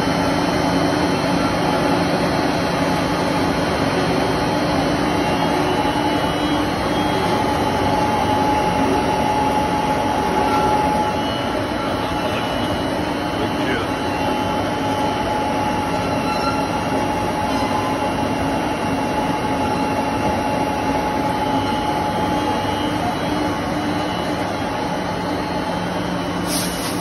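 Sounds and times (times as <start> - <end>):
thin steady whine: 0.0 - 26.4.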